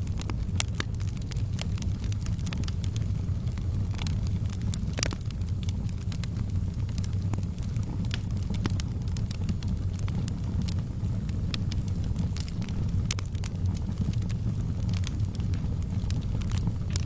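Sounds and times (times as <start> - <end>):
steady low rumble: 0.0 - 17.0
wood fire crackling and popping: 0.0 - 17.0.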